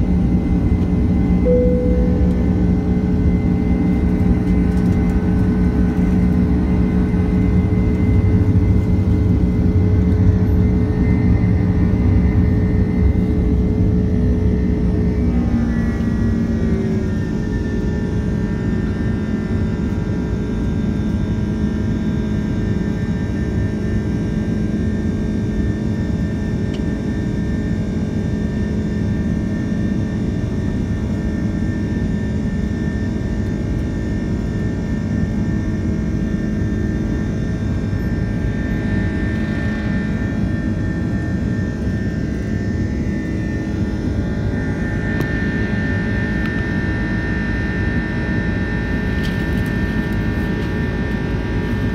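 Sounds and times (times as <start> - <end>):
jet engines from inside cabin: 0.0 - 51.9.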